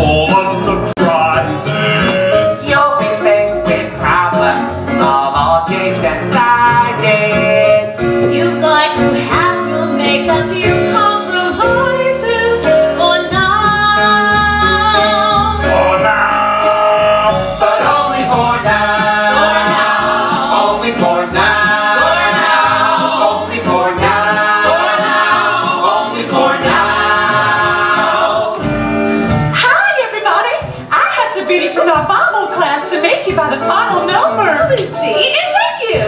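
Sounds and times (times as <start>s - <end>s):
instrumental accompaniment: 0.0s - 36.0s.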